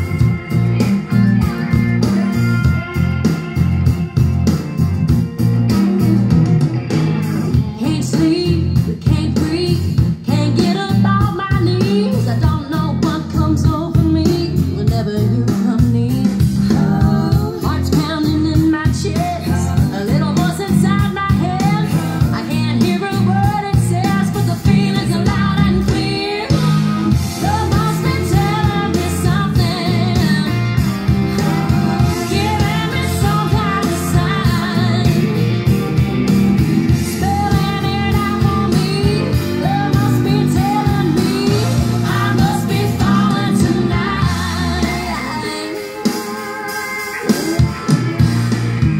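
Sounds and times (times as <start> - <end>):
song with singing over guitar: 0.0 - 48.9.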